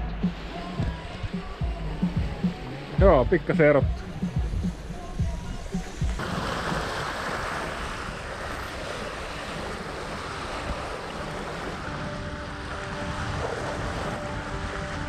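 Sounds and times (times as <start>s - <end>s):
waves washing against hull: 0.0s - 15.0s
wind on microphone: 0.0s - 15.0s.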